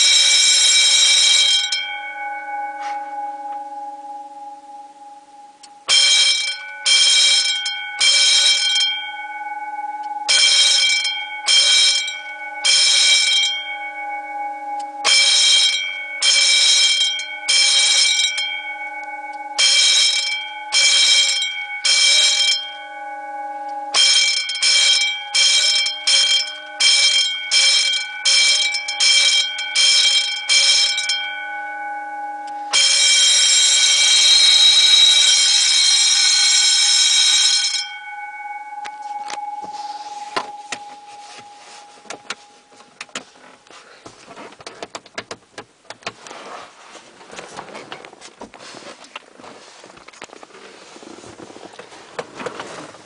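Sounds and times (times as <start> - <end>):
fire alarm bells ringing: 0.0 - 44.0.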